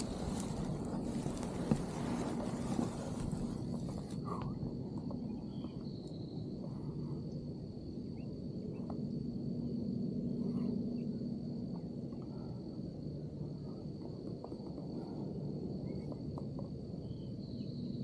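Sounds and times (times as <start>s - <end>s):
high-pitched insect trill: 0.0s - 18.0s
low background rumble: 0.0s - 18.0s.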